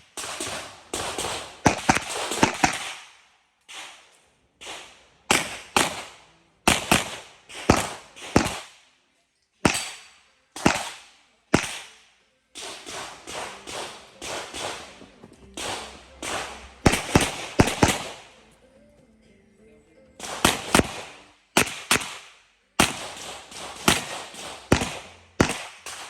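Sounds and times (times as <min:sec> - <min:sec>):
echoing pistol shots: 0:00.0 - 0:08.8, 0:09.6 - 0:18.4, 0:20.2 - 0:26.0.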